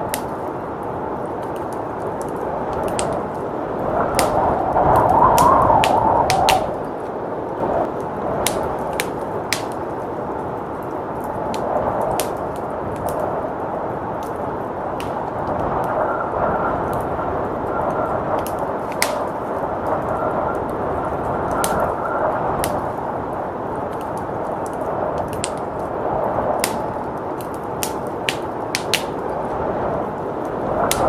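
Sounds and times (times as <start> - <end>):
whistling blizzard wind: 0.0 - 31.0
wood fire crackling: 0.0 - 31.0.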